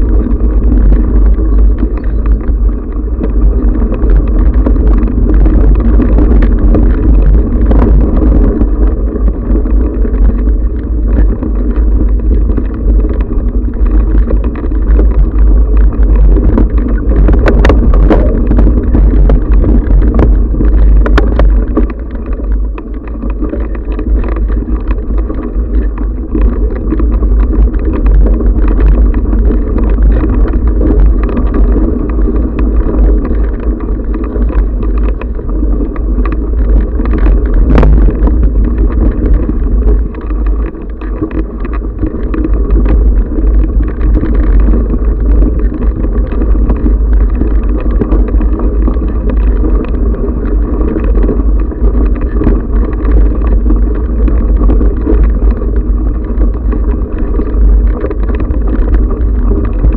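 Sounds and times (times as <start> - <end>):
bike rattling on gravel trail: 0.0 - 59.9
wind buffeting microphone: 0.0 - 59.9.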